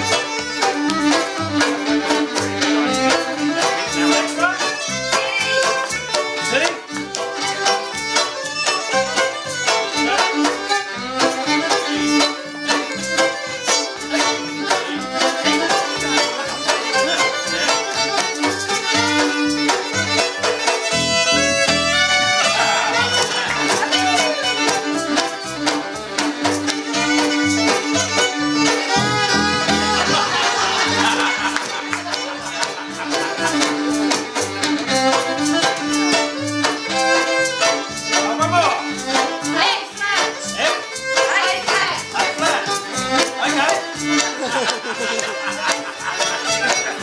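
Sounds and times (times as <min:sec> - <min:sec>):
fiddle melody: 0:00.0 - 0:47.0
plucked double bass: 0:00.0 - 0:47.0.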